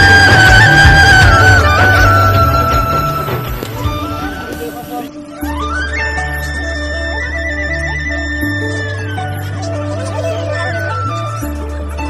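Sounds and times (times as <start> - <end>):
instrumental music with held melody: 0.0 - 12.0.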